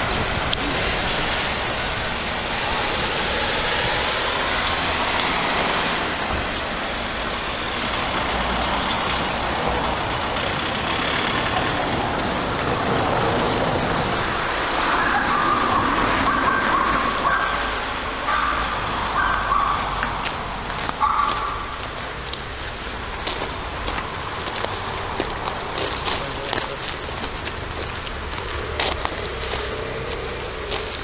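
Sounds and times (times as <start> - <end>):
passing vehicles rushing: 0.0 - 31.0.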